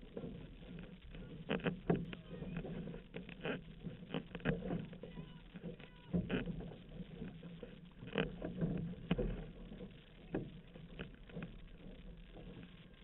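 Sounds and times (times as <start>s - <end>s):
paddle splashes: 0.0s - 13.0s
water washing against hull: 0.0s - 13.0s.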